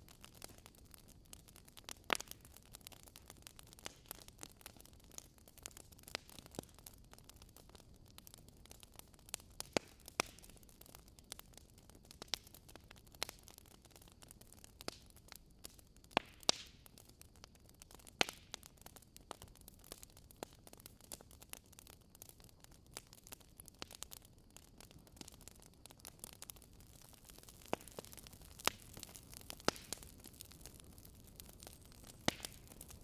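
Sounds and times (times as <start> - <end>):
faint steady hiss: 0.0 - 33.0
wood fire crackling: 0.0 - 33.0.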